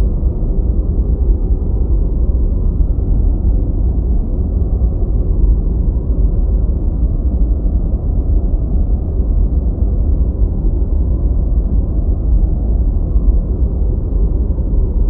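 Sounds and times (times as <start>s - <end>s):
deep white noise: 0.0s - 15.0s.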